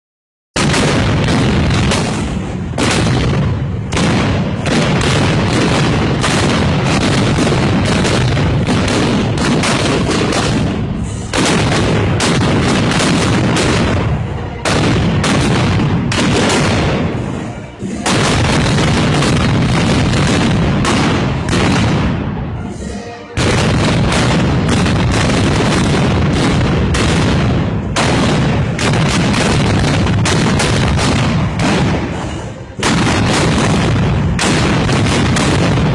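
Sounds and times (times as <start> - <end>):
black-powder gunfire crackle: 0.6 - 35.9.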